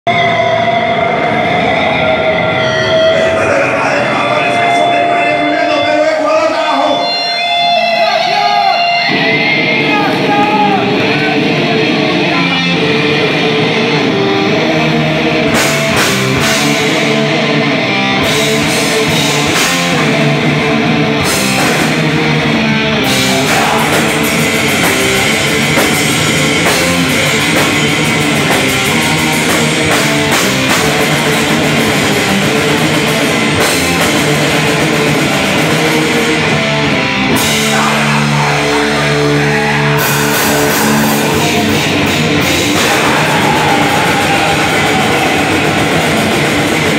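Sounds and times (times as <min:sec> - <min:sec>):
heavy metal band playing: 0:00.0 - 0:46.9.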